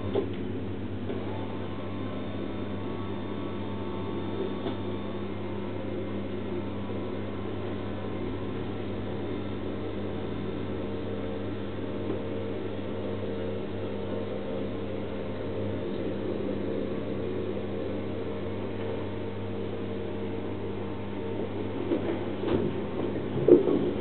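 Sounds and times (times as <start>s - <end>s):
massage motor humming: 0.0s - 24.0s.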